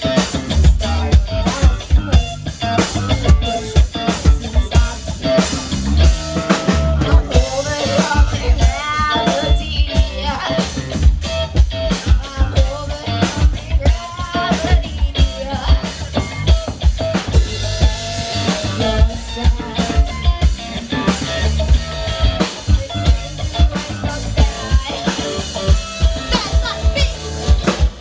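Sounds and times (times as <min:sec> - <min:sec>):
drum kit beat: 0:00.0 - 0:28.0
rock band playing: 0:00.0 - 0:28.0.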